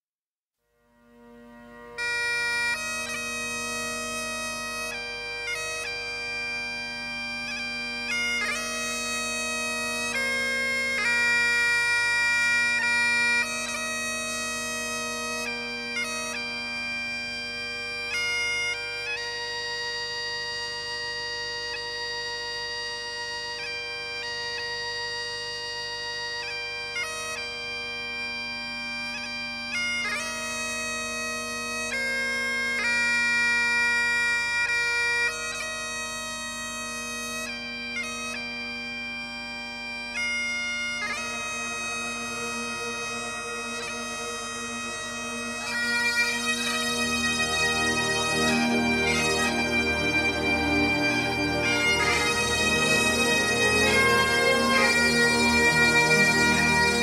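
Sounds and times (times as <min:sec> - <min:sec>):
bagpipes playing slow melody: 0:00.7 - 0:57.0.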